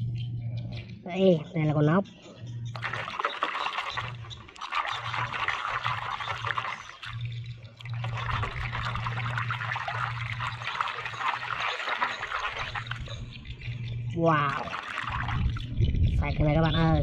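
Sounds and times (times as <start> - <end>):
water splashing in a basin: 2.7 - 17.0.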